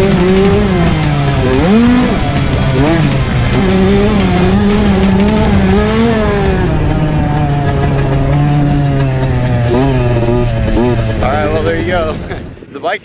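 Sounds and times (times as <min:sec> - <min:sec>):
dirt bike engine revving: 0:00.0 - 0:12.6.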